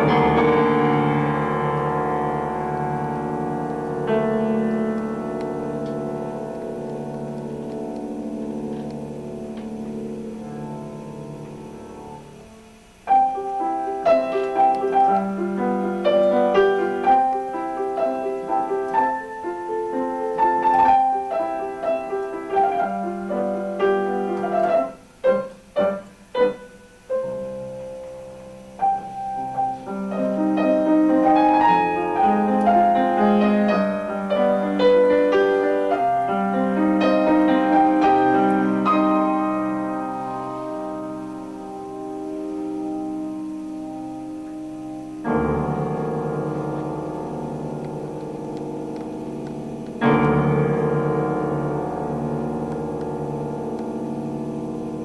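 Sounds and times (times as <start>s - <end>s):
piano playing: 0.0s - 55.0s.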